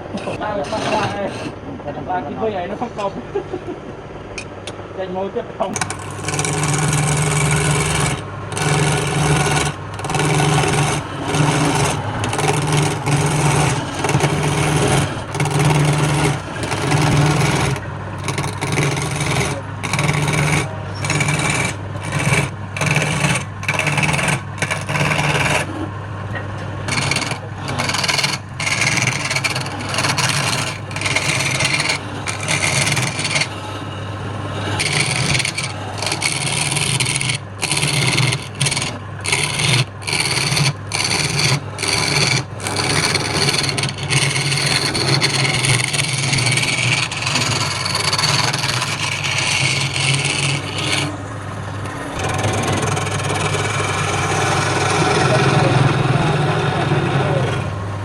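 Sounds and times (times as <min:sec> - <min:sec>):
tool rasping on spinning wood: 0:00.0 - 0:01.6, 0:05.6 - 0:26.0, 0:26.8 - 0:58.0
lathe motor hum: 0:00.0 - 0:01.9, 0:05.6 - 0:58.0.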